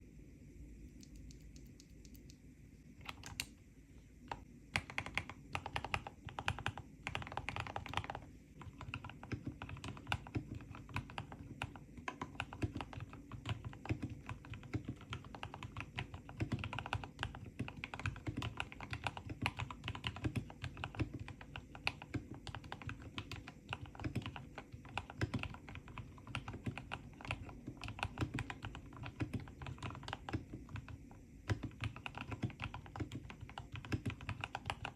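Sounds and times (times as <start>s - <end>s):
typing on mechanical keyboard: 4.3s - 34.9s.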